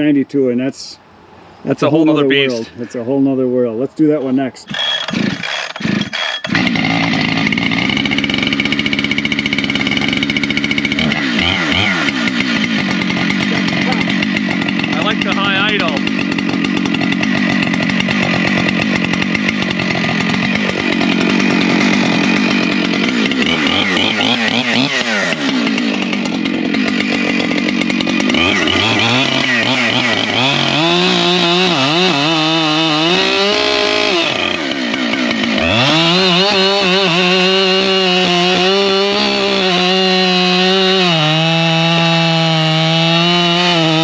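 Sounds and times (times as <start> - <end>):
chainsaw cutting through log: 4.3 - 44.0.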